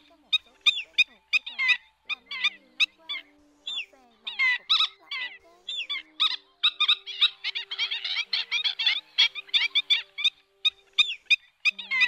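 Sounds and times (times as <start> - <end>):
birds yelping calls: 0.0 - 12.0.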